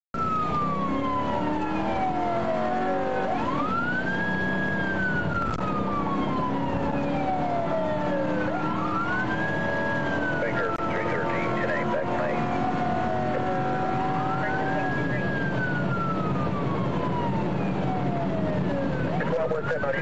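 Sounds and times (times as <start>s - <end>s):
car road noise: 0.2s - 20.0s
police siren wailing: 0.2s - 20.0s.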